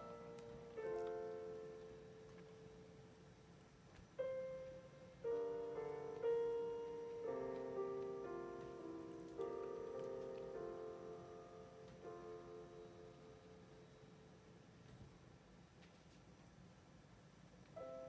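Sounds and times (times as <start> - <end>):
slow quiet piano music: 0.0 - 18.0.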